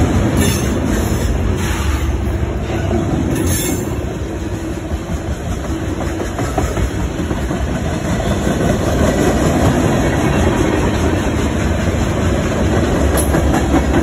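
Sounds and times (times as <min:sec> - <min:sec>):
freight train rumbling: 0:00.0 - 0:14.0
wheels clickety-clack on rails: 0:00.0 - 0:14.0.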